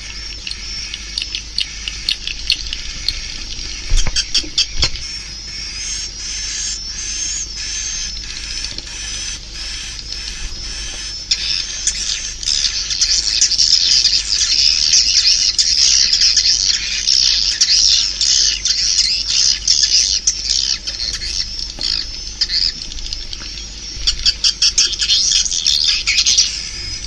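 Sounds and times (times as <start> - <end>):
swiftlets twittering: 0.0 - 27.0.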